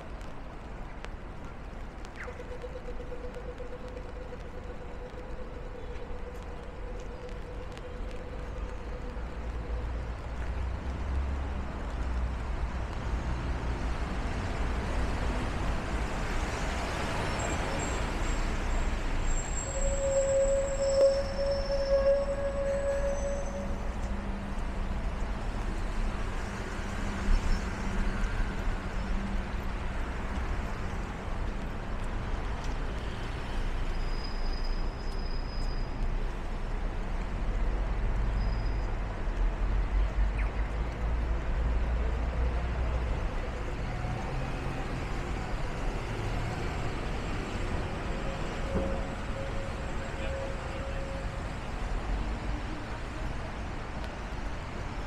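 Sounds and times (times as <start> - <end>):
hiss of rain and tyres: 0.0 - 55.0.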